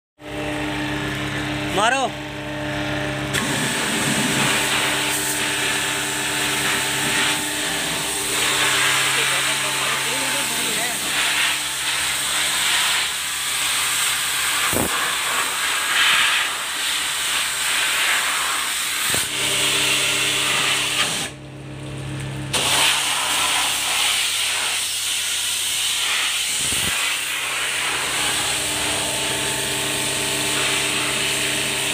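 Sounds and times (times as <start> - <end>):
pressure washer pump hum: 0.2 - 31.9
pressure washer jet hissing: 3.4 - 21.3, 22.5 - 31.9.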